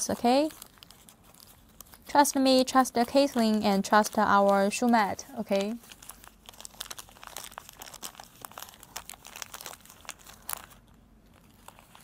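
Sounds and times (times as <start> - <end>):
paper crinkling and crackling: 0.0 - 12.0.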